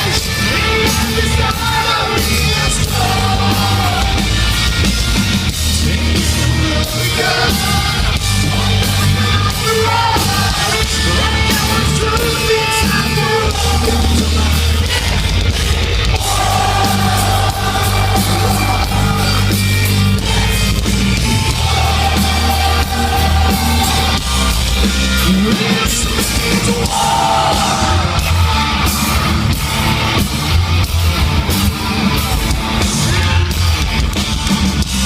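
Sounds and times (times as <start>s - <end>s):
heavy metal band playing live: 0.0s - 35.0s.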